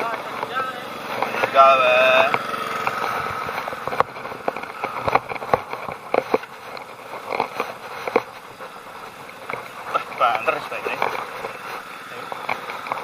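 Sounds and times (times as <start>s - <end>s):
bicycle parts clicking and rattling: 0.0s - 13.0s
steady rushing noise: 0.0s - 13.0s.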